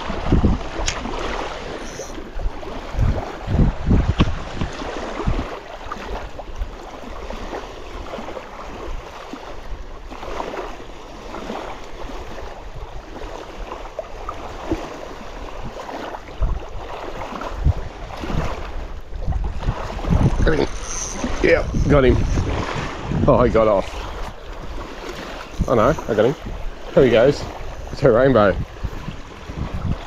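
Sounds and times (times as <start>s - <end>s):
small waves lapping: 0.0s - 30.0s
wind gusting on microphone: 0.0s - 30.0s.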